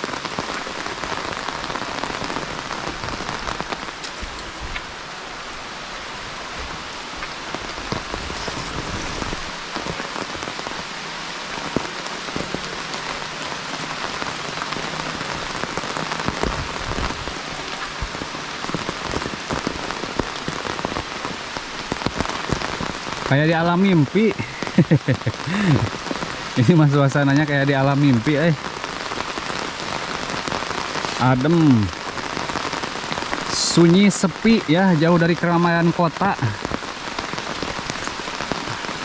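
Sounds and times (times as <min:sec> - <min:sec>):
steady rainfall: 0:00.0 - 0:39.0.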